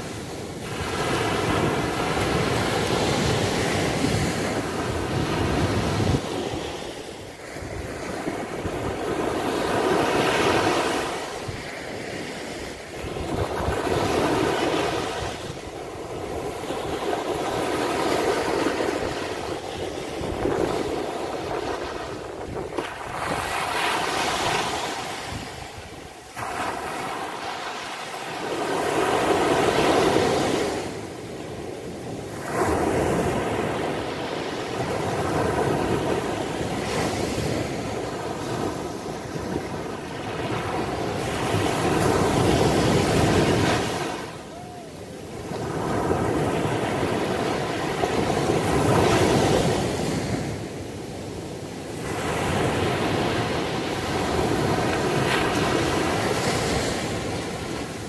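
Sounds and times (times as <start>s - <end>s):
small waves breaking on sand: 0.0s - 58.0s.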